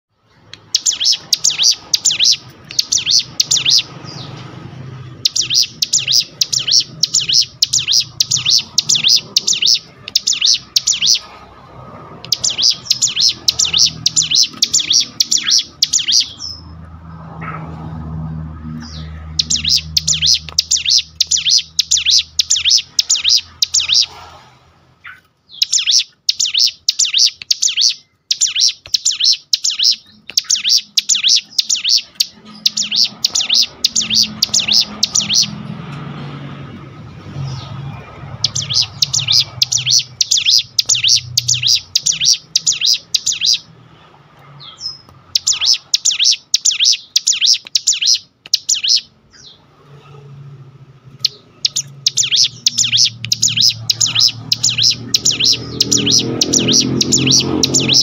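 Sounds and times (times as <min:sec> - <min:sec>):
bird singing high notes: 0:00.3 - 0:04.4, 0:05.1 - 0:11.4, 0:12.1 - 0:16.8, 0:17.4 - 0:24.3, 0:25.0 - 0:35.7, 0:37.0 - 0:43.7, 0:44.6 - 0:49.6, 0:51.1 - 0:58.0.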